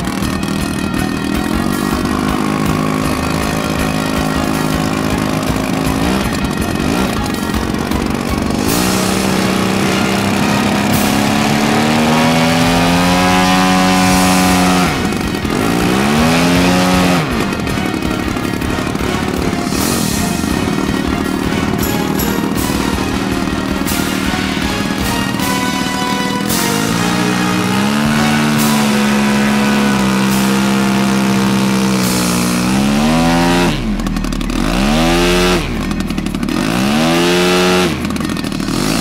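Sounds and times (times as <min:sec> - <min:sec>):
model plane petrol engine revving: 0:00.0 - 0:39.0.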